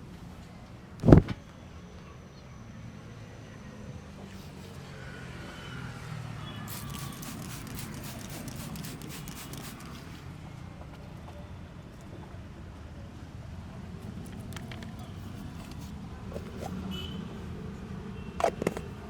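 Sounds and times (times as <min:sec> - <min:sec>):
low street hum: 0:00.0 - 0:19.0.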